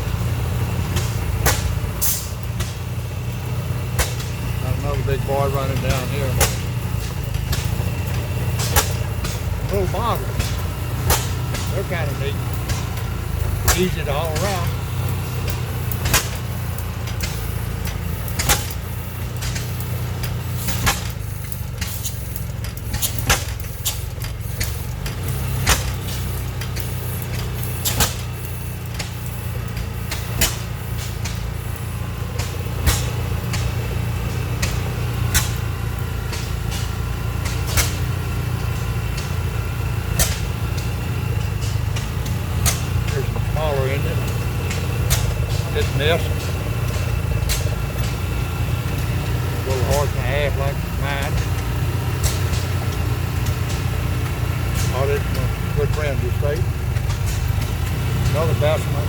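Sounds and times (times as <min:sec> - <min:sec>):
low rumble of engines: 0:00.0 - 0:59.0
stationary gas engine popping: 0:00.0 - 0:59.0.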